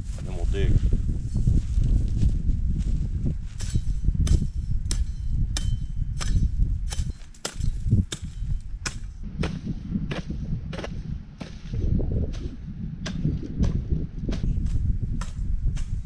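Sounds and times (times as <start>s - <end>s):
steady low rumble: 0.0s - 16.0s
blade slashing through dry weeds: 2.8s - 16.0s.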